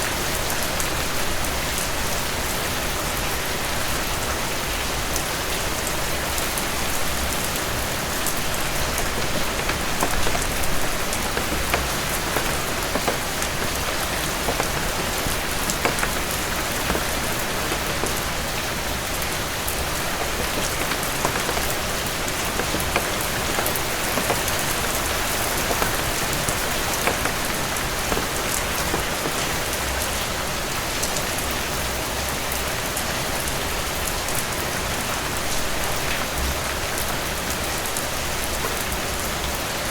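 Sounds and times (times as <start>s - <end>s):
heavy rain on a porch: 0.0s - 39.9s.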